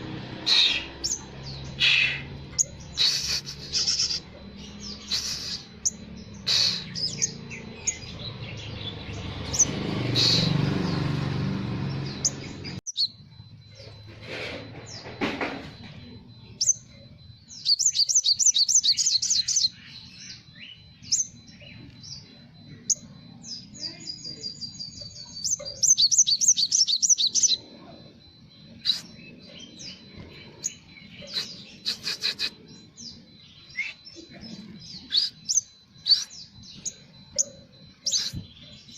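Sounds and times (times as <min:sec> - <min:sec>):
bird high chirps: 0:00.0 - 0:38.9
thin steady high tone: 0:00.4 - 0:10.5, 0:11.9 - 0:38.9.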